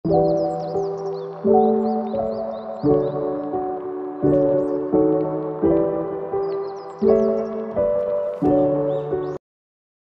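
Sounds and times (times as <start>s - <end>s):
soft background music chords: 0.1s - 9.4s.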